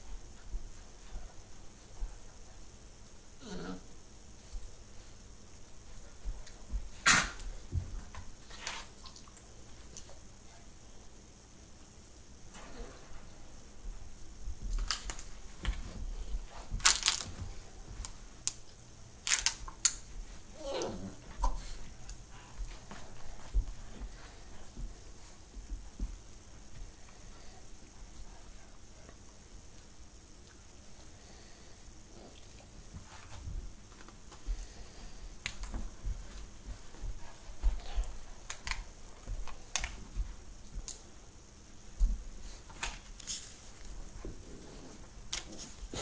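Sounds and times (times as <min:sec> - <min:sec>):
dogs playing clicks and rustles: 0:04.4 - 0:10.3, 0:12.2 - 0:20.5, 0:21.2 - 0:31.1, 0:32.2 - 0:41.3, 0:41.9 - 0:46.0.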